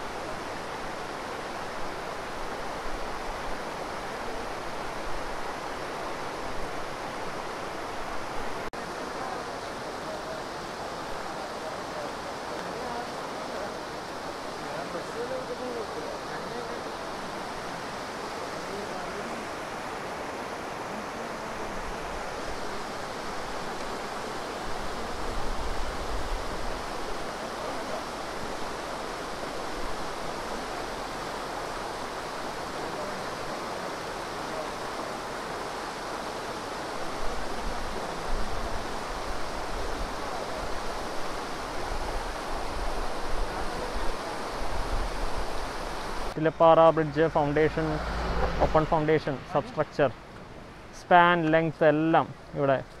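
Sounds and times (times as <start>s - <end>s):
water rushing over rocks: 0.0s - 53.0s.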